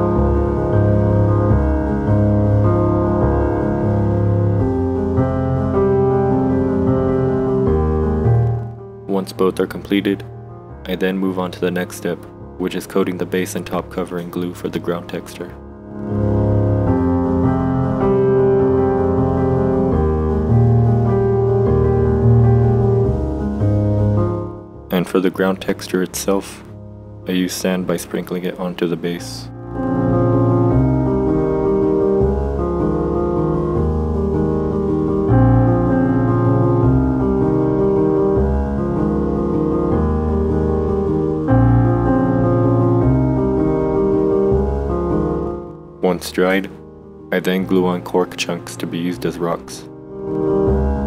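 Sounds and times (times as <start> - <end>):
keyboard chords: 0.0 - 51.0
piano music: 0.0 - 51.0.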